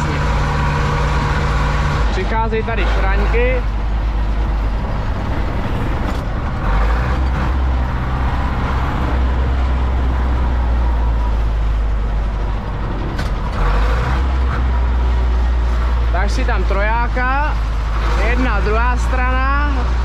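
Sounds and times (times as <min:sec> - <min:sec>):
tractor diesel engine drone: 0:00.0 - 0:20.0.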